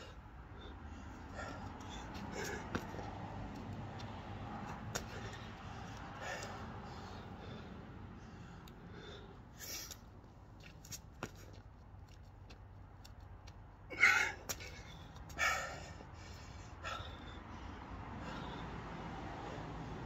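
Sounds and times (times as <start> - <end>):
man breathing hard: 0.0 - 10.2, 13.9 - 20.0.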